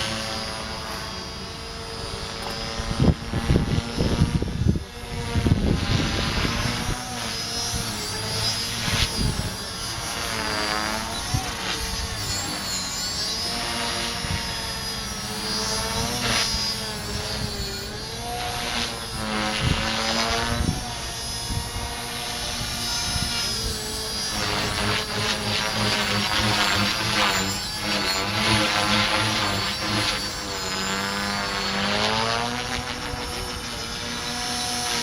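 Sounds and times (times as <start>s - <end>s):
rc helicopter motor and rotor whine: 0.0s - 35.0s.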